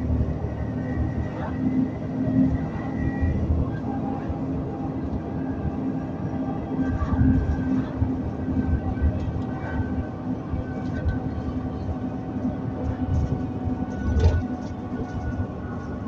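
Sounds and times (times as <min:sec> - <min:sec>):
bus engine drone: 0:00.0 - 0:16.0
constant whine: 0:00.0 - 0:16.0.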